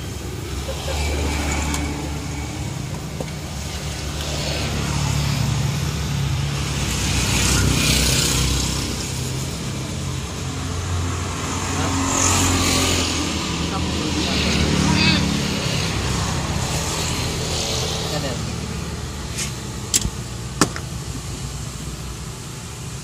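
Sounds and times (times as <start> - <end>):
road traffic hum: 0.0 - 23.0
vehicles passing: 0.0 - 23.0.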